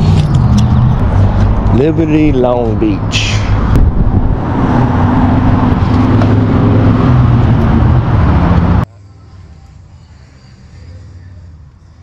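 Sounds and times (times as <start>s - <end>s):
engine rumbling: 0.0s - 11.8s.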